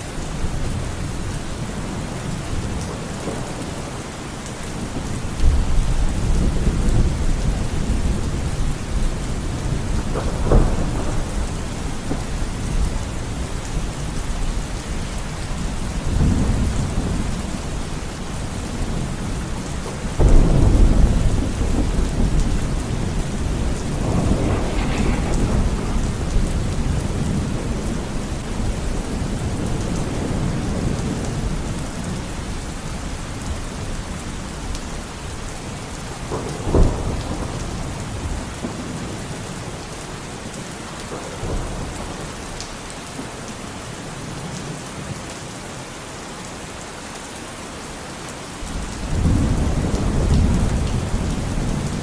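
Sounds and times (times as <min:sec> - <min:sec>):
steady rain: 0:00.0 - 0:52.0
rolling thunder: 0:00.4 - 0:40.0, 0:48.6 - 0:52.0.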